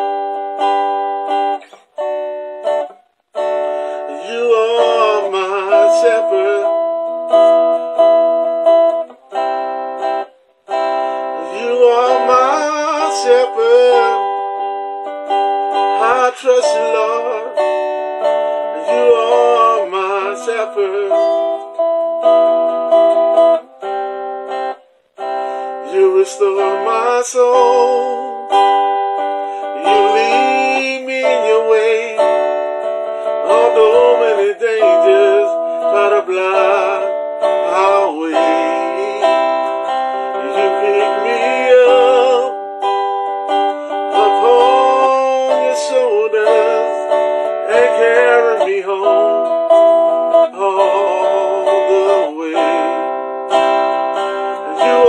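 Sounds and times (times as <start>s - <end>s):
man singing with vibrato: 0.0s - 55.0s
plucked acoustic guitar: 0.0s - 55.0s.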